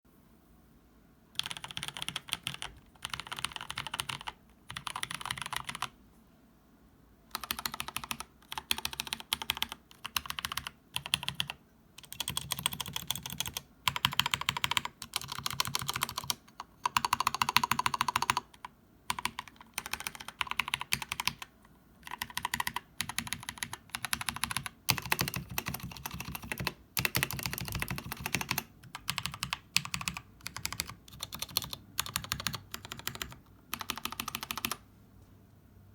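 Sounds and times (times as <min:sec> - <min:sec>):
mechanical keyboard typing: 0:01.4 - 0:05.9, 0:07.3 - 0:34.8.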